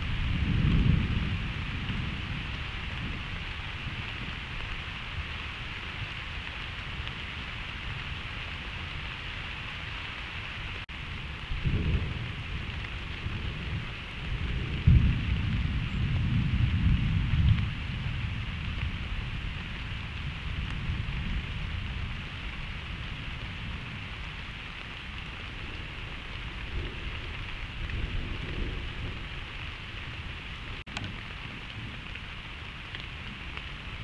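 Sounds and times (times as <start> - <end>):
thunder rumbling: 0.0 - 10.0, 10.8 - 34.0
rain hissing: 0.0 - 34.0.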